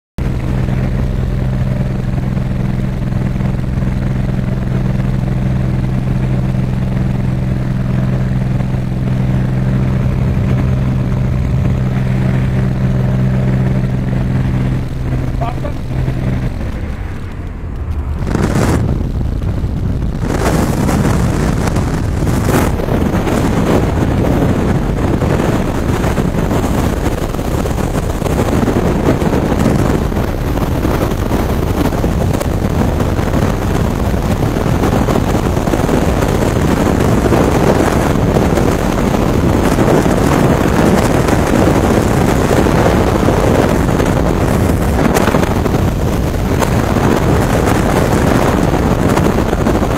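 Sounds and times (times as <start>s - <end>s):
wind rushing over microphone: 0.2s - 49.9s.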